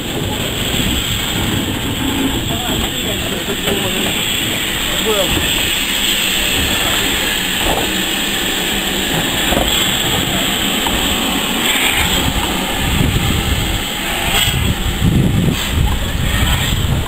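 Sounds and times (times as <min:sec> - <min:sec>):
steam hissing from locomotive: 0:00.0 - 0:17.0
wind rumbling on microphone: 0:00.0 - 0:17.0.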